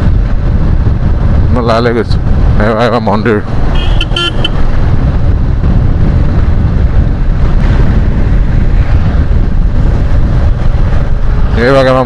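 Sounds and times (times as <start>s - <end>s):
road vehicle rumble: 0.0s - 12.0s
wind buffeting microphone: 0.0s - 12.0s.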